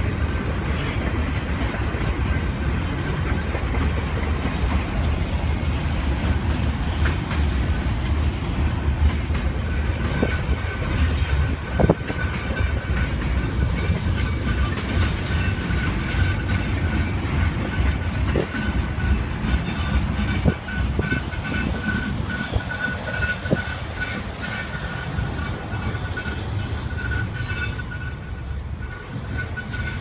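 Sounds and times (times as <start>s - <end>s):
railroad cars rumbling: 0.0s - 30.0s.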